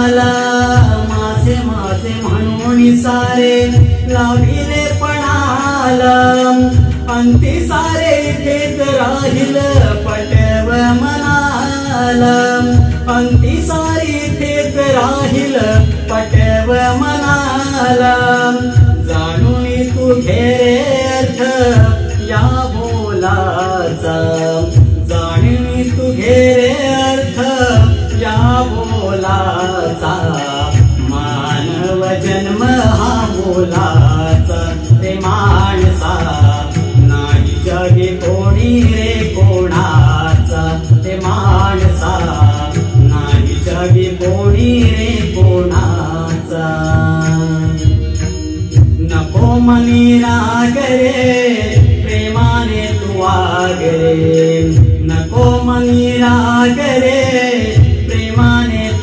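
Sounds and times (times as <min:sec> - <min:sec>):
backing track with drum beat: 0:00.0 - 0:59.0
man singing: 0:00.0 - 0:59.0.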